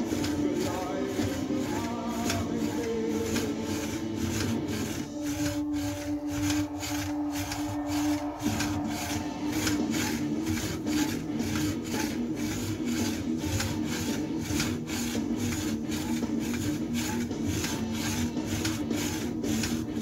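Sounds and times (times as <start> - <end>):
spring exerciser rasping rub: 0.0 - 20.0.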